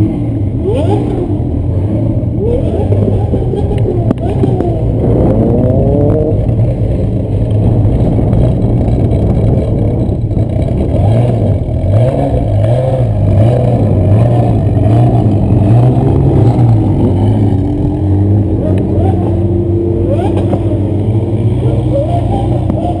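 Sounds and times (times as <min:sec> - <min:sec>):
drone motors humming: 0:00.0 - 0:23.0.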